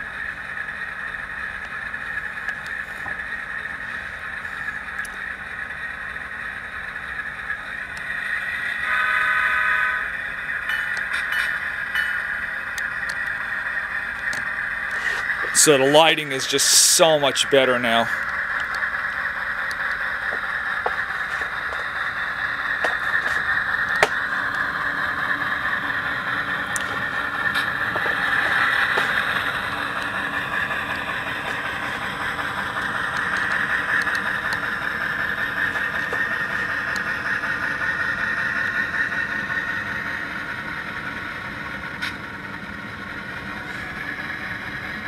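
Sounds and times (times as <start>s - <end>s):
model train diesel engine sound: 0.0s - 45.0s
running gear clicking on rails: 0.0s - 45.0s.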